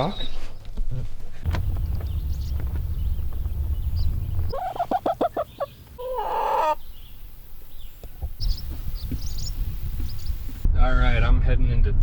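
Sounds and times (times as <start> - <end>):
bird calling: 0.0 - 10.6
low rumble: 1.4 - 6.0, 6.8 - 12.0.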